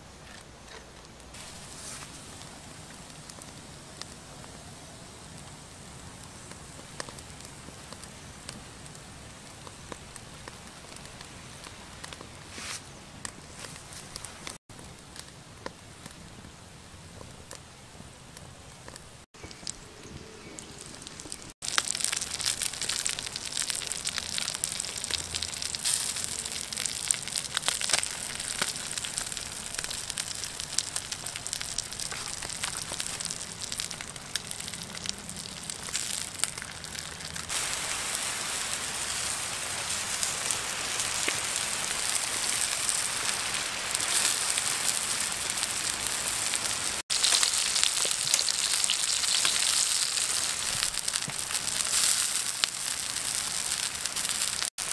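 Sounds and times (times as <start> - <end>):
wood fire crackling: 0.0 - 54.9
fish roe sizzling on hot stone: 1.3 - 16.3, 20.6 - 54.9.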